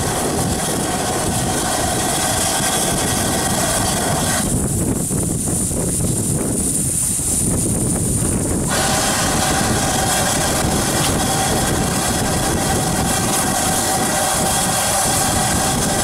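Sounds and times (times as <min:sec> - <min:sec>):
low rumble: 0:00.0 - 0:16.0
steam locomotive hissing steam: 0:00.0 - 0:16.0.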